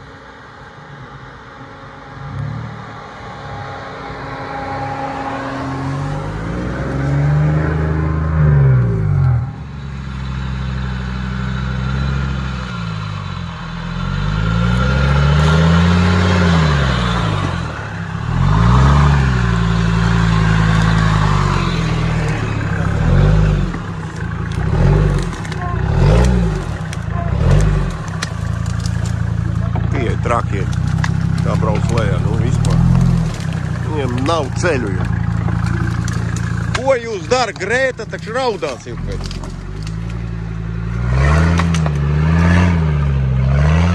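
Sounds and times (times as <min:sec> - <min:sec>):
off-road vehicle engine revving: 0:02.1 - 0:43.9.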